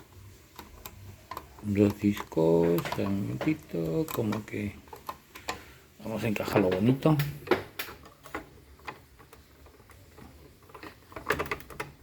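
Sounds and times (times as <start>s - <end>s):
plastic clicks and knocks: 0.0s - 5.7s, 6.4s - 12.0s.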